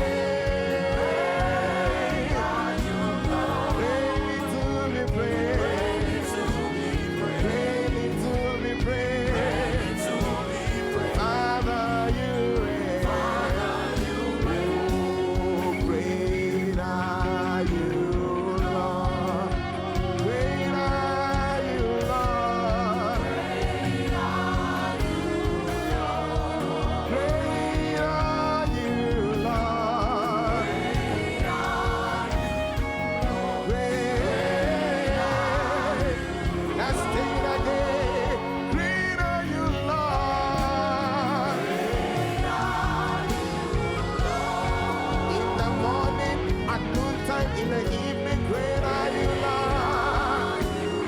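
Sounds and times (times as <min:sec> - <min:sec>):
gospel worship music: 0:00.0 - 0:51.0
instrumental accompaniment: 0:00.0 - 0:51.0
voices singing held notes: 0:00.0 - 0:51.0.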